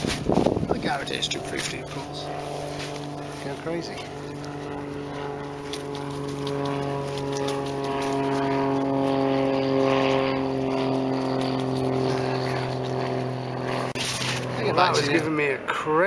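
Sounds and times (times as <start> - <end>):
steady engine drone: 0.0 - 16.0.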